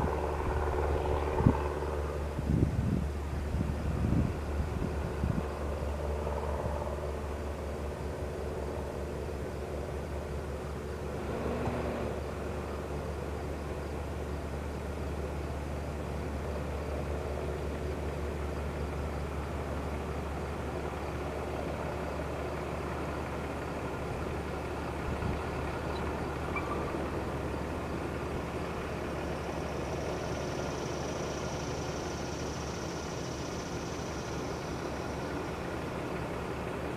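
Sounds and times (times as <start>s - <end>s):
distant propeller plane drone: 0.0s - 36.9s.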